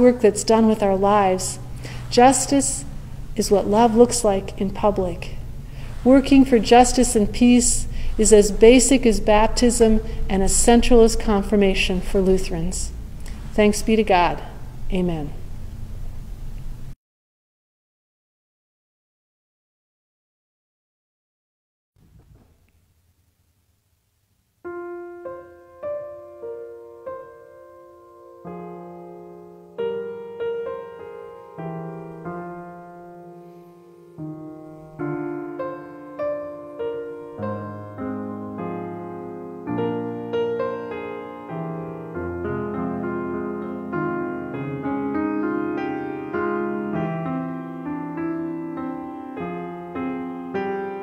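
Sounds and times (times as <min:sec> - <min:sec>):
grand piano playing hymn: 0:00.0 - 0:16.0, 0:24.7 - 0:51.0.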